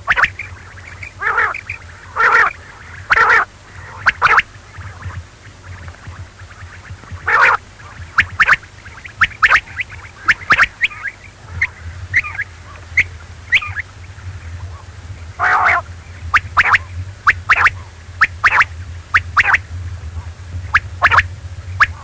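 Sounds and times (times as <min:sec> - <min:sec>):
quail calling: 0:00.0 - 0:22.0
steady low hum: 0:00.0 - 0:22.0.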